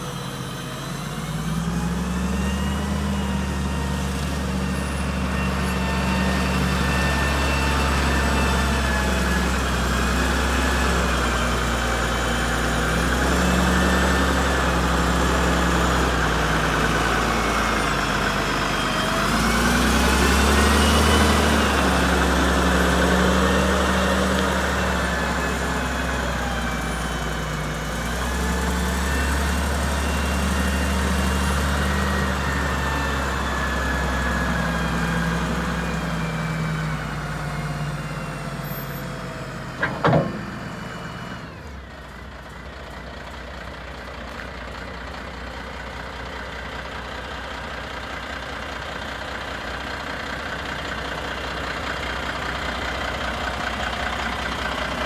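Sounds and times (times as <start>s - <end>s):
wheel loader diesel engine: 0.0s - 55.0s.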